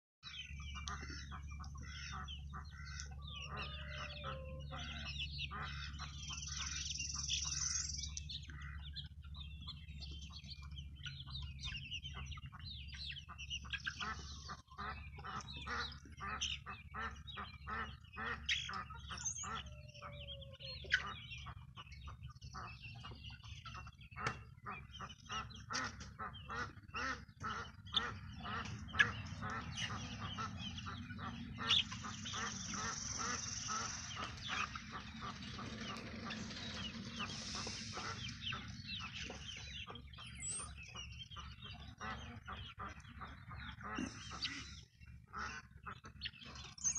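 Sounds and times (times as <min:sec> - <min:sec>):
hens clucking: 0:00.3 - 0:46.9.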